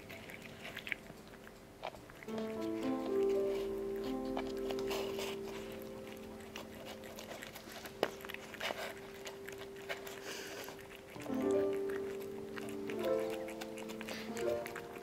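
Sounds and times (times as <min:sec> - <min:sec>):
cat chewing wet food: 0:00.0 - 0:15.0.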